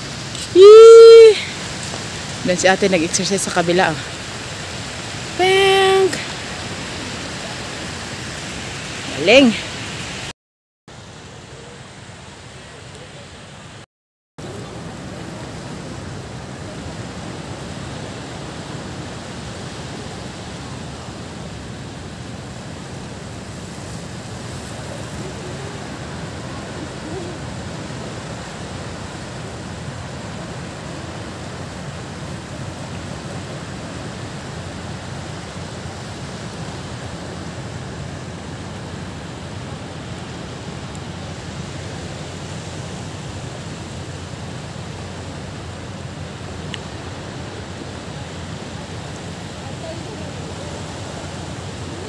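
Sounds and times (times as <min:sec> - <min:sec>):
distant surf: 0:00.0 - 0:10.3, 0:10.9 - 0:13.8, 0:14.4 - 0:52.0
wind: 0:00.0 - 0:52.0.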